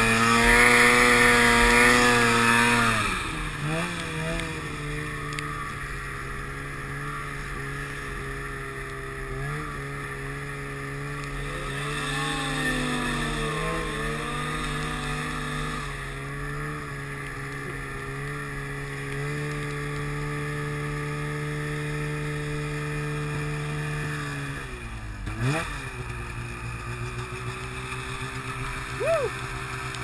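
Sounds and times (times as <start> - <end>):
passing snowmobile engine: 0.0 - 30.0
snowmobile engine running: 0.0 - 30.0.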